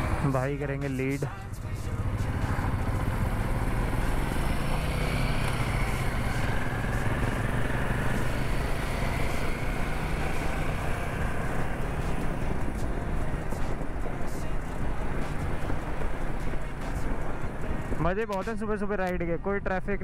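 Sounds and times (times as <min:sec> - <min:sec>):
motorcycle engine running: 0:00.0 - 0:00.6, 0:01.3 - 0:18.5.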